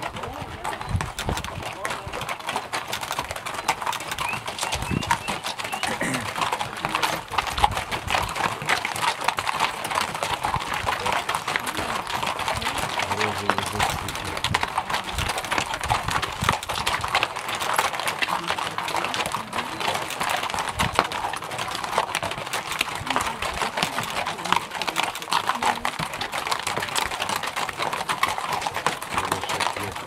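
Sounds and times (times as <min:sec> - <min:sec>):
mule hooves clip-clopping on rocky trail: 0:00.0 - 0:30.0.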